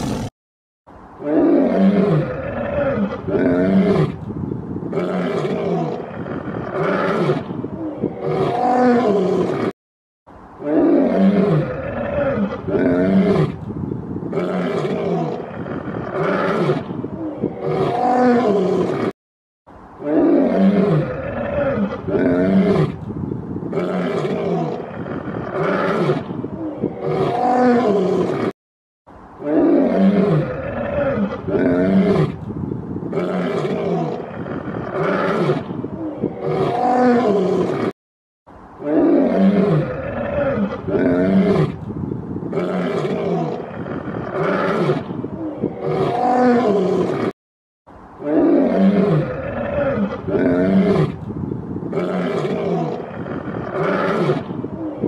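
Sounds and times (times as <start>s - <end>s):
lion roaring and grunting: 1.2s - 9.7s, 10.6s - 19.1s, 20.0s - 28.5s, 29.4s - 37.9s, 38.8s - 47.3s, 48.2s - 55.0s.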